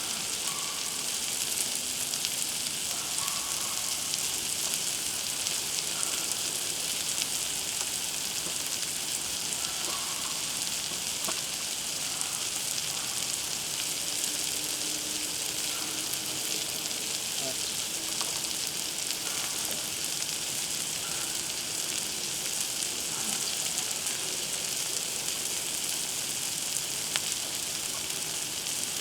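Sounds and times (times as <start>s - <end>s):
food sizzling on a griddle: 0.0s - 29.0s.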